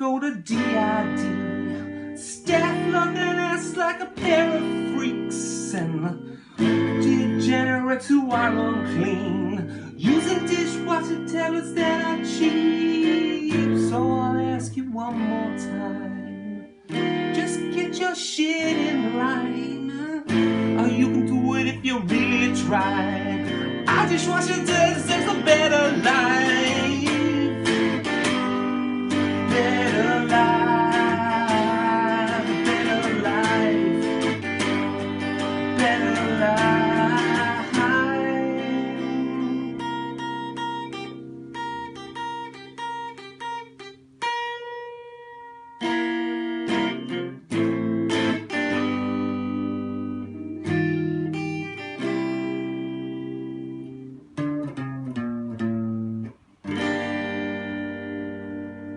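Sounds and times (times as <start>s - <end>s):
acoustic guitar strumming: 0.0s - 58.9s.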